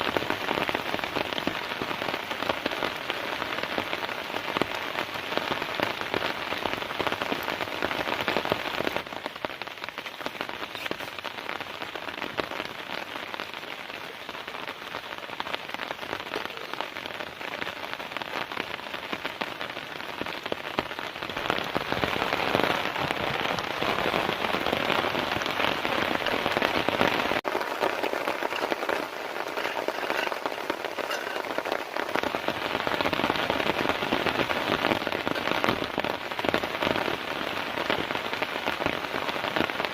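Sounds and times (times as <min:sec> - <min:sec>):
heavy rain pattering on a tent: 0:00.0 - 0:39.9.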